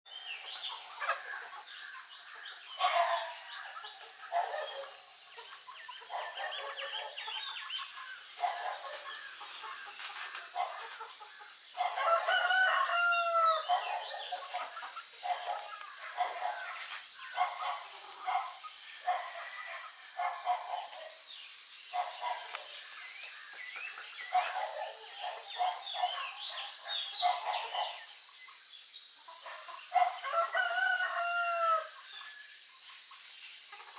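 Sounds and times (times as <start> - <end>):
steady high-pitched hiss: 0.1 - 33.9.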